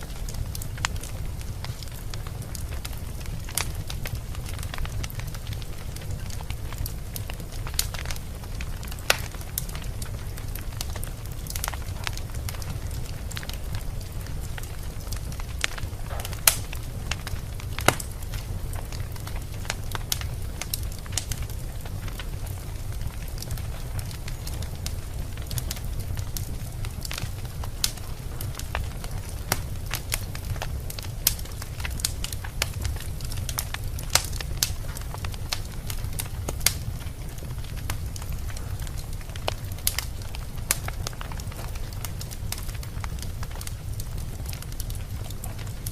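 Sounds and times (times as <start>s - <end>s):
fire pops and snaps: 0.0s - 45.9s
low rumble of flames: 0.0s - 45.9s
wood fire crackling: 0.0s - 45.9s.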